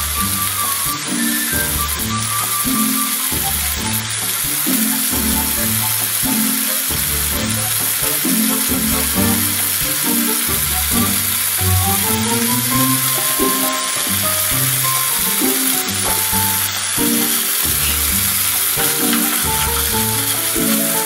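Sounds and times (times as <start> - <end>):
background music: 0.0 - 21.0
potatoes sizzling in a pan: 0.0 - 21.0.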